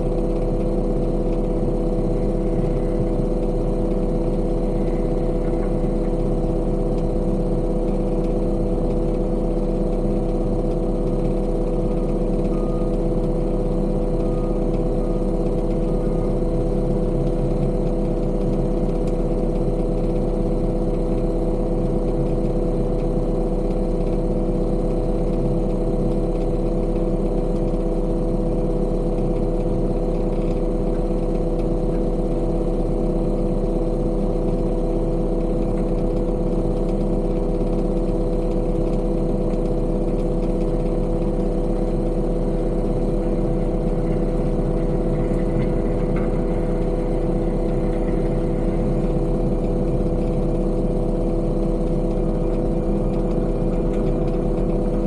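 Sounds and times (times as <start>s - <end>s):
construction machinery engine droning: 0.0s - 55.0s.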